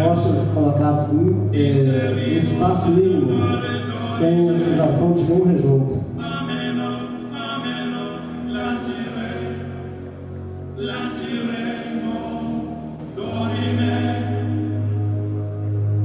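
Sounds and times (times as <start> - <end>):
choir-like chant: 1.5 - 16.0.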